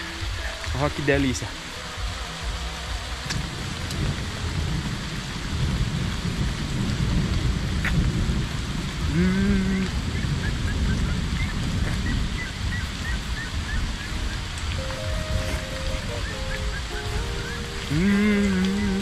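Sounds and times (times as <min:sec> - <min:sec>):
rain falling: 0:00.0 - 0:19.0
rolling thunder rumble: 0:03.2 - 0:19.0.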